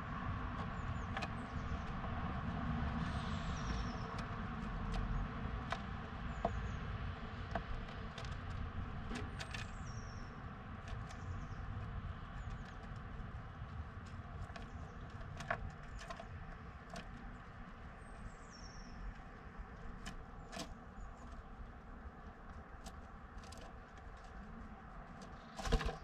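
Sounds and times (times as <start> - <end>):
light clicks and taps: 0.4 - 18.2, 18.8 - 26.0
bird calls: 0.5 - 8.2, 9.1 - 26.0.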